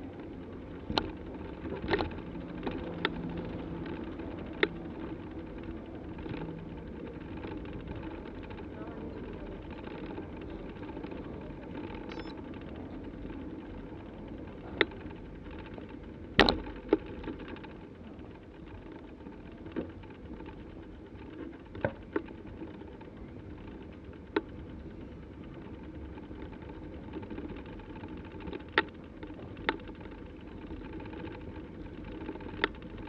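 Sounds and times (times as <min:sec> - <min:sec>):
bicycle rolling rush: 0:00.0 - 0:33.0
bike clicks and knocks: 0:00.1 - 0:33.0.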